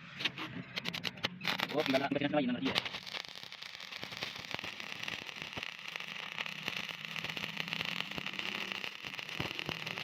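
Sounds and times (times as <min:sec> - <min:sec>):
welding arc crackling sizzle: 0:00.8 - 0:10.0.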